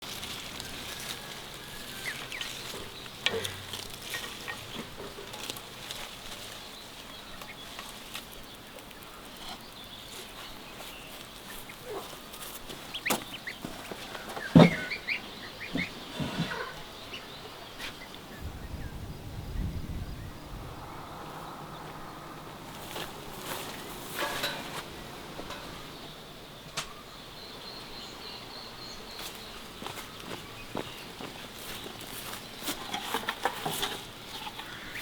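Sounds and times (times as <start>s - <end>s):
chickens clucking: 0.0s - 18.8s, 21.0s - 27.1s, 27.7s - 35.0s.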